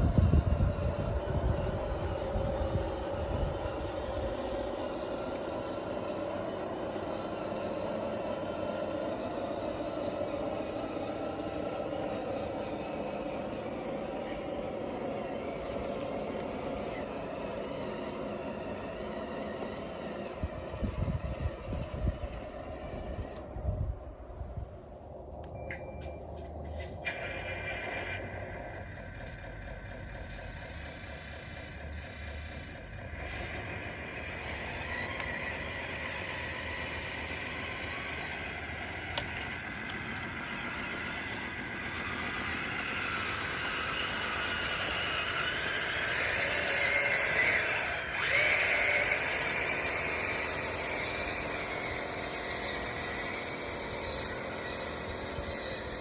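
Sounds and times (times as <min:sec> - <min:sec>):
electric motors and gearboxes running: 0:00.0 - 0:56.0.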